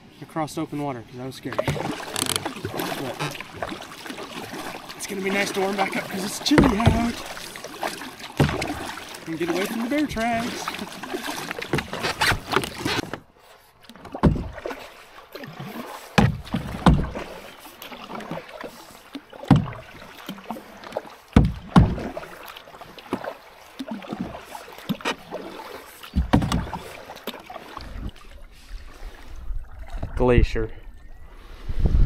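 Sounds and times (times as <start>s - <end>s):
paddle splashing in water: 0.7s - 31.7s.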